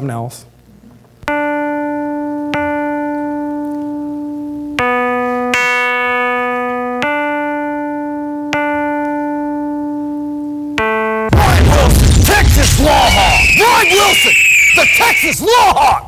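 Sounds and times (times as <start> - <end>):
long held struck notes: 1.3 - 15.0.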